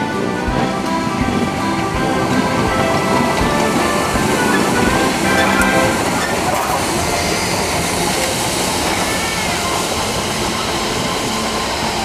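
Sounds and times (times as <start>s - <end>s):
steam locomotive rolling past: 0.0s - 12.0s
train wheels on rails: 0.0s - 12.0s.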